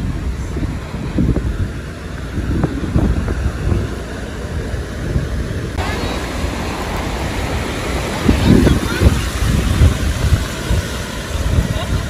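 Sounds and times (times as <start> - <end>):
ocean surf washing on beach: 0.0 - 12.0
wind buffeting microphone: 0.0 - 12.0.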